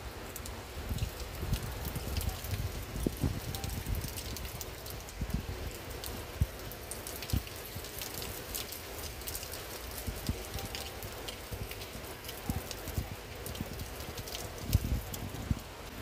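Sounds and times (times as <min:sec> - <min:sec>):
heavy rain hiss: 0:00.0 - 0:16.0
raindrops tapping window and railing: 0:00.1 - 0:16.0.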